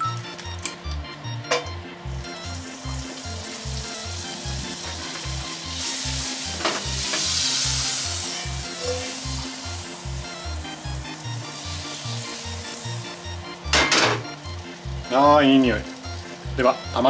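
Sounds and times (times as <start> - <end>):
background music with steady beat: 0.0 - 17.0
butter sizzling in a frying pan: 2.3 - 17.0.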